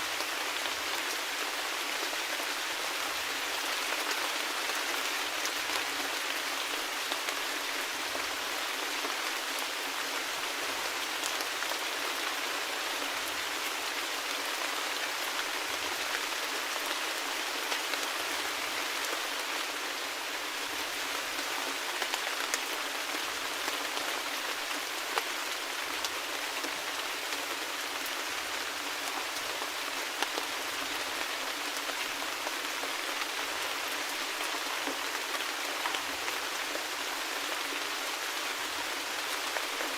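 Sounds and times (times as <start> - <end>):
rain falling and pattering: 0.0 - 39.9.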